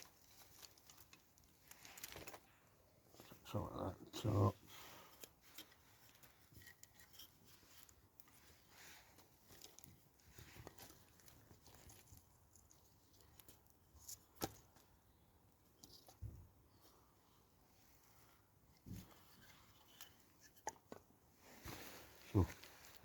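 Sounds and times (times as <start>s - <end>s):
faint firewood crackling: 0.0s - 23.0s.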